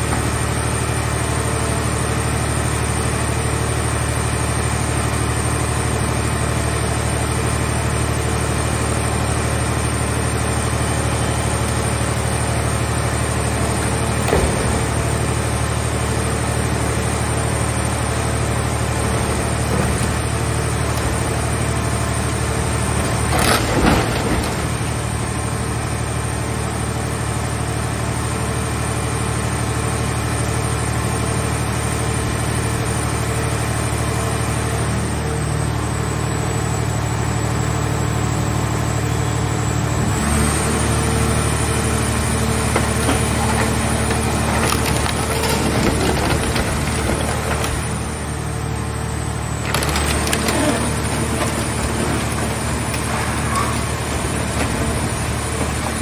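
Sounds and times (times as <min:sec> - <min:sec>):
hydraulic power unit drone: 0:00.0 - 0:56.0.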